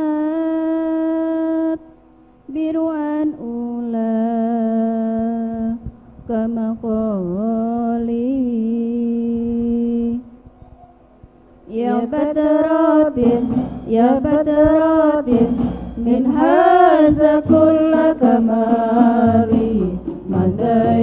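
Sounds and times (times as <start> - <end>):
woman singing into microphone: 0.0 - 1.9, 2.5 - 10.4, 11.7 - 21.0.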